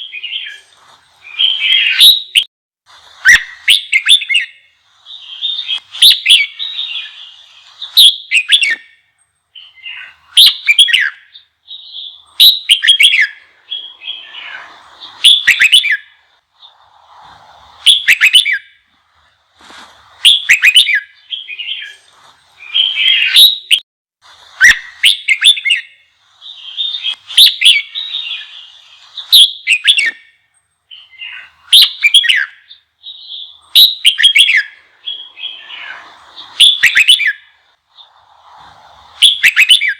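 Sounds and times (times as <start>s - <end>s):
bird whistled song phrases: 0.0s - 2.5s, 3.2s - 17.1s, 17.8s - 18.8s, 20.2s - 23.8s, 24.5s - 39.9s
soft bird chatter: 0.0s - 39.9s.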